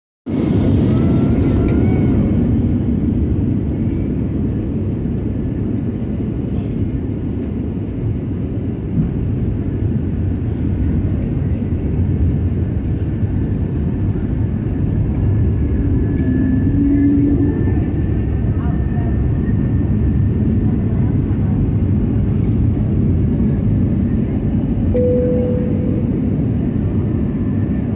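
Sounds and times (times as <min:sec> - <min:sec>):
airflow and jet engine rush: 0:00.3 - 0:27.9
faint engine whine: 0:00.3 - 0:27.9.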